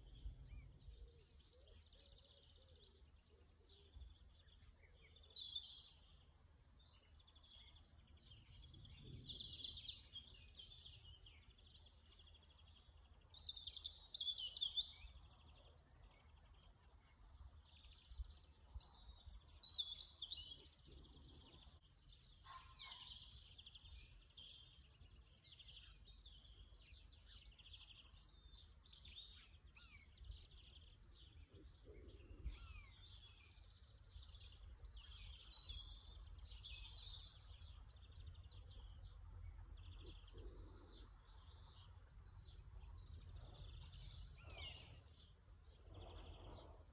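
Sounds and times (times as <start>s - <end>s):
songbirds singing: 0.0s - 46.9s.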